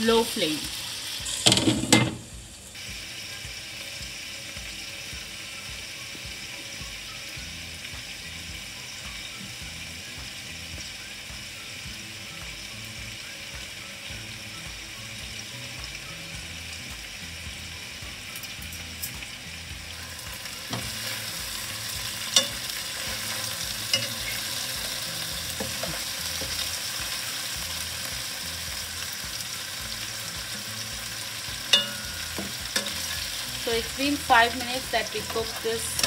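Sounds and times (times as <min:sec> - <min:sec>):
chicken sizzling in a pan: 0:00.0 - 0:36.0.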